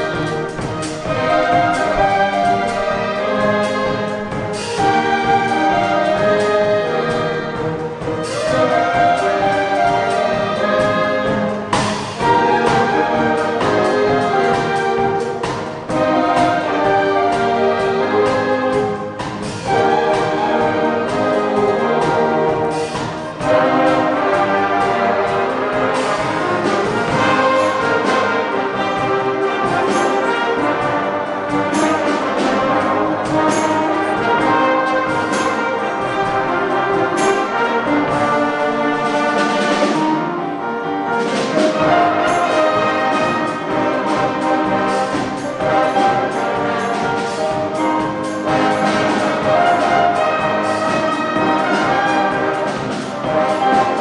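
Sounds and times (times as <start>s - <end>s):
orchestra playing with brass: 0.0s - 54.0s.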